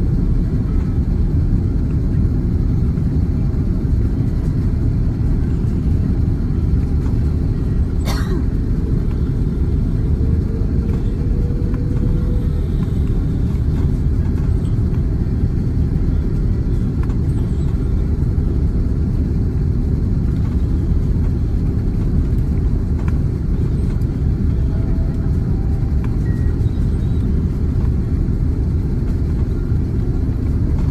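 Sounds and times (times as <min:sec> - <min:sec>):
airliner cabin engine rumble: 0:00.0 - 0:30.9.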